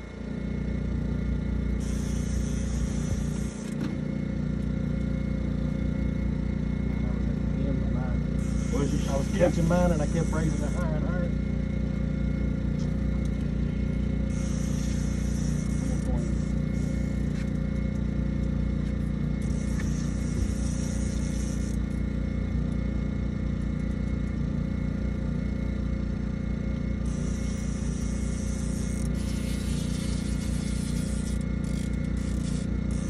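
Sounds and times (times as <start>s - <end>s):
outboard motor idling: 0.0s - 33.0s.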